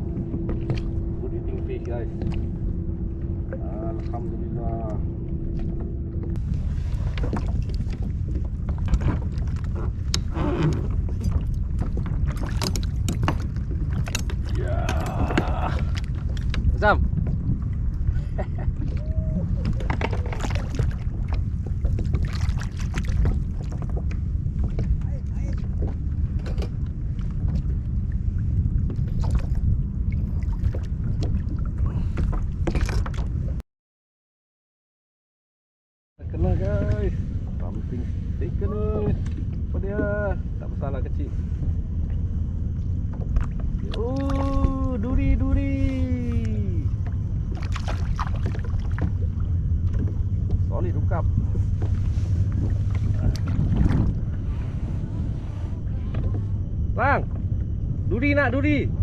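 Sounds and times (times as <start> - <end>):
low rumble: 0.0 - 33.6, 36.2 - 59.0
water against a hull: 0.0 - 33.6, 36.2 - 59.0
wind buffeting microphone: 0.0 - 33.6, 36.2 - 59.0.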